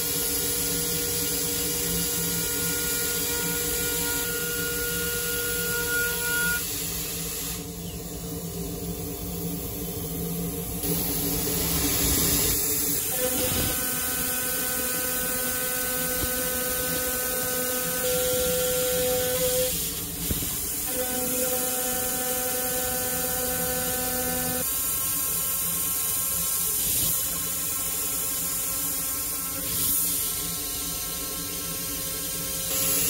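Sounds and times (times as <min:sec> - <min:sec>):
milling machine hum and hiss: 0:00.0 - 0:33.0.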